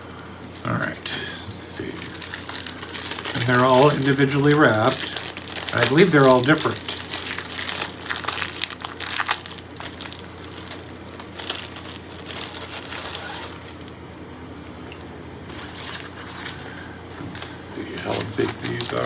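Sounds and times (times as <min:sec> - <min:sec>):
plastic wrapping crinkling: 0:00.0 - 0:14.0, 0:14.7 - 0:19.0.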